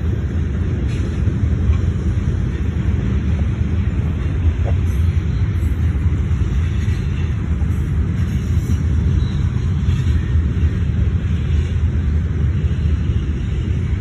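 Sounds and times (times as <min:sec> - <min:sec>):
freight train cars rumbling: 0:00.0 - 0:14.0.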